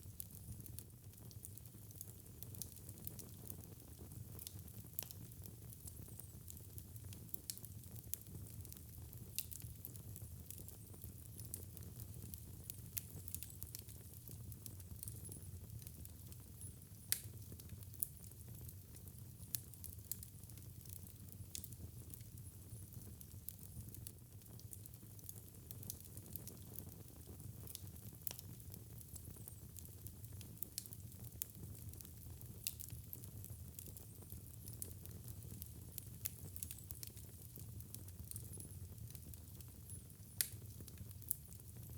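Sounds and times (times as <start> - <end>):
low rumble of burning: 0.0 - 41.9
wood fire crackling: 0.0 - 41.9.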